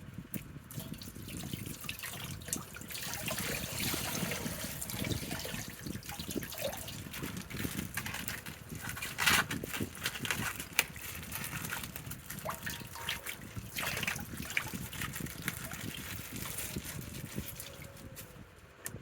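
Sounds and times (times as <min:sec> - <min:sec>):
water splashing and trickling: 0:00.3 - 0:18.2.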